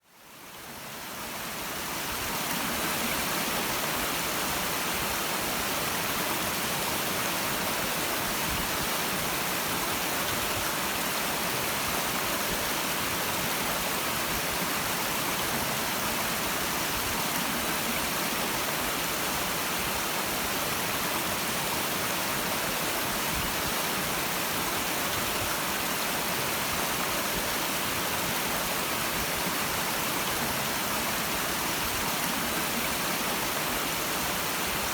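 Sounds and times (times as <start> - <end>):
stream running over rocks: 0.1 - 34.9.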